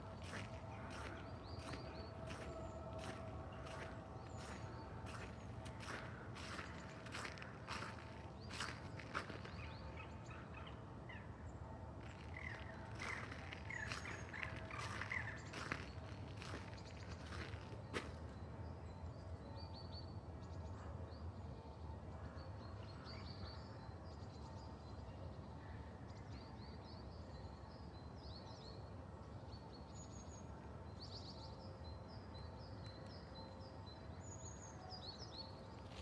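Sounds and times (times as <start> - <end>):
songbirds chirping and twittering: 0.0 - 36.0.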